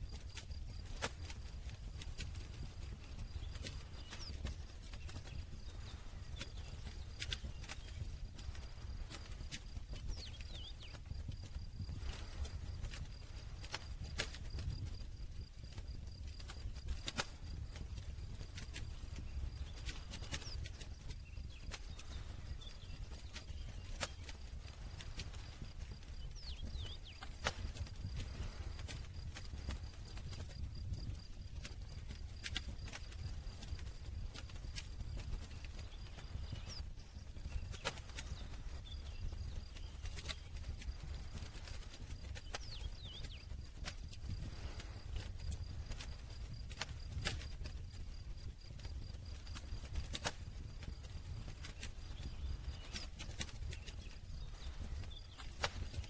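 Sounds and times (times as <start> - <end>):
campfire crackling: 0.0 - 56.0
low steady fire rumble: 0.0 - 56.0.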